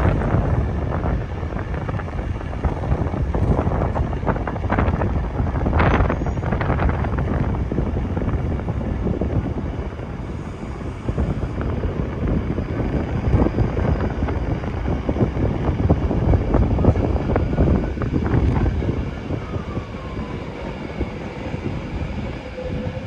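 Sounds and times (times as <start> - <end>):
wind buffeting the microphone: 0.0 - 23.0.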